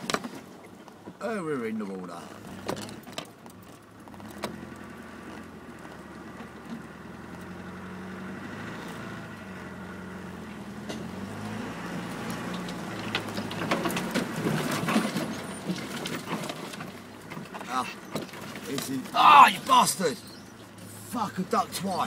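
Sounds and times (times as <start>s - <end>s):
branches scraping car body: 0.0s - 7.6s, 10.6s - 22.0s
car engine pulling at low speed: 0.0s - 22.0s.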